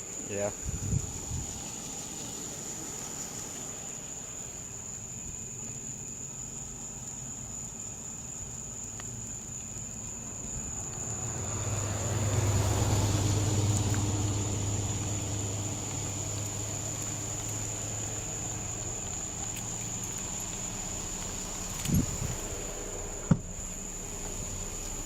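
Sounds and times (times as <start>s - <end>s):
road noise: 0.0s - 25.0s
vehicle engine hum: 0.0s - 25.0s.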